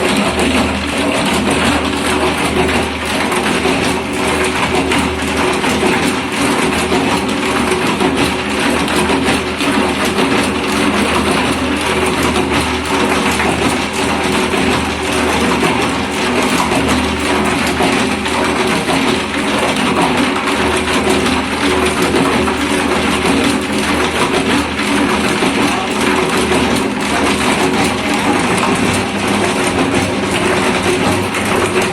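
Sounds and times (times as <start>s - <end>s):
concrete mixer motor humming: 0.0s - 31.9s
mixer drum clattering: 0.0s - 31.9s.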